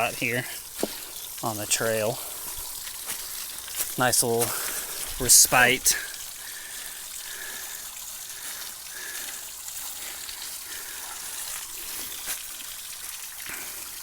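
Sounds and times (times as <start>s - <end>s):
small waterfall splashing: 0.0s - 14.0s.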